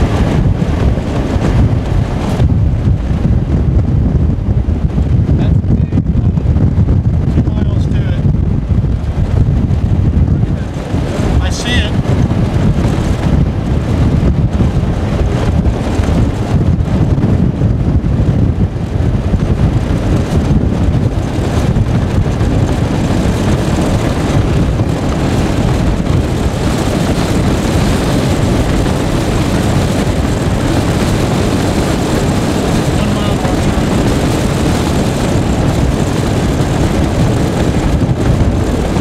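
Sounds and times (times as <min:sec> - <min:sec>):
vehicle road noise rumble: 0:00.0 - 0:39.0
wind buffeting microphone: 0:00.0 - 0:39.0.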